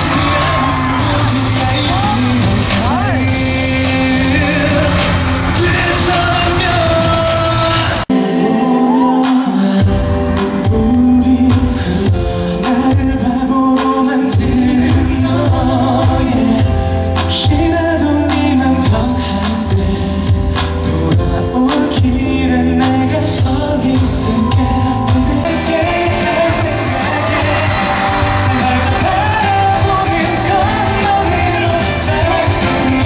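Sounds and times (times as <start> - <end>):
backing music: 0.0 - 33.0
man singing into microphone: 0.0 - 33.0.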